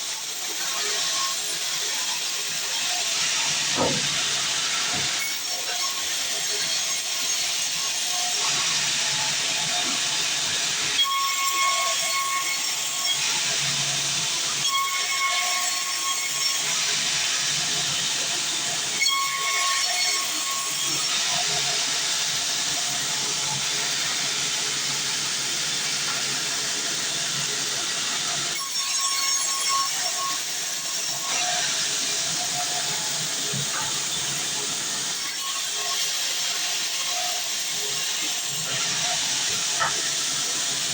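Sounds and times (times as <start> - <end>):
band saw cutting log: 1.1 - 40.9.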